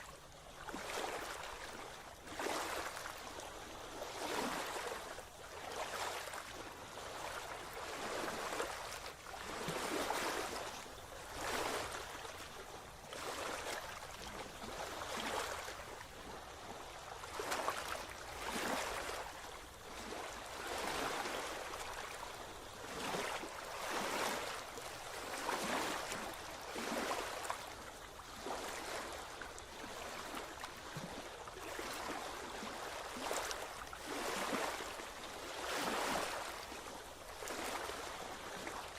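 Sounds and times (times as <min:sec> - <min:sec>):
small waves splashing: 0:00.0 - 0:38.9.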